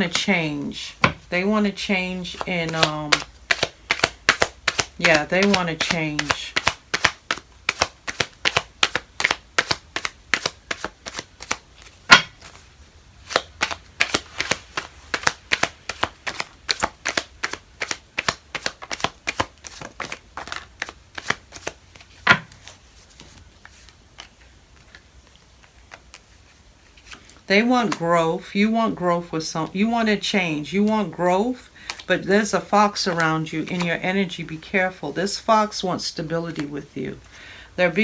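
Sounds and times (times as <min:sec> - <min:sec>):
cards being shuffled: 0:00.0 - 0:28.0, 0:31.8 - 0:34.6.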